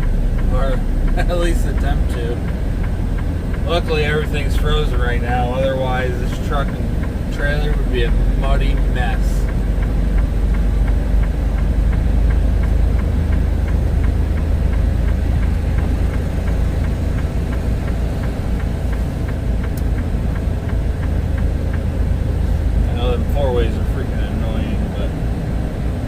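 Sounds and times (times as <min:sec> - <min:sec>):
diesel engine low rumble: 0:00.0 - 0:26.0
hazard flashers ticking: 0:00.4 - 0:23.7.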